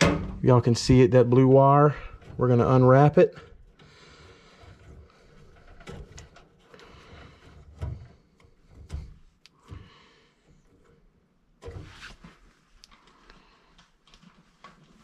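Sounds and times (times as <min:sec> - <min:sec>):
faint wire rustling: 0:00.6 - 0:15.0
light clicks and knocks: 0:02.0 - 0:15.0.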